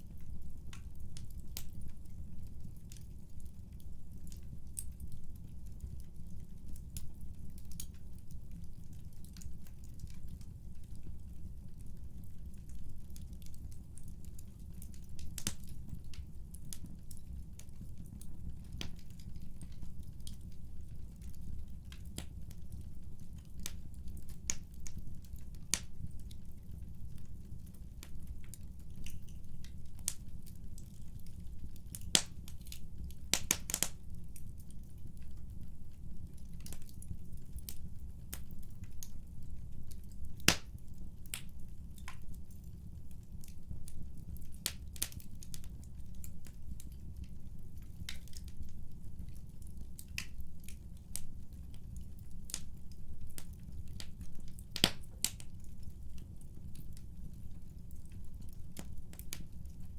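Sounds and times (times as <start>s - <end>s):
fire crackling and popping: 0.0s - 59.9s
fire rumbling in fireplace: 0.0s - 59.9s.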